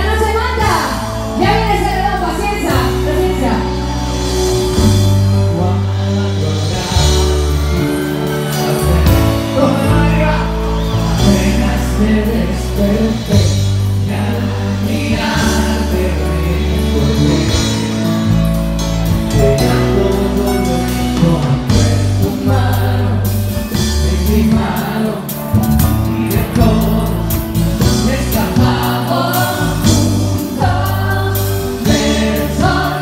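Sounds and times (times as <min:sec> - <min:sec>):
deep bass notes: 0:00.0 - 0:33.0
live band playing loud music: 0:00.0 - 0:33.0
person singing: 0:00.0 - 0:33.0.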